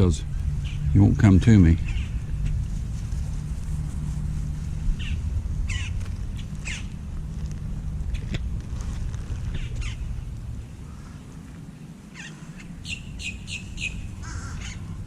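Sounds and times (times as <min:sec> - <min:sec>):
birds calling: 0:00.0 - 0:15.0
low rumble: 0:00.0 - 0:15.0.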